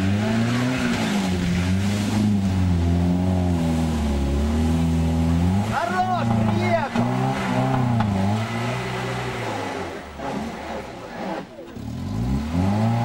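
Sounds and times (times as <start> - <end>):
vehicle churning through muddy water: 0.0 - 13.0
vehicle engine labouring: 0.0 - 13.0.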